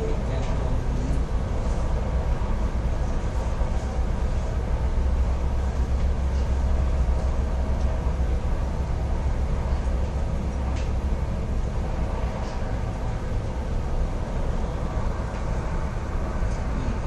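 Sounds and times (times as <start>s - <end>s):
helicopter rotor and engine rumble: 0.0s - 17.0s.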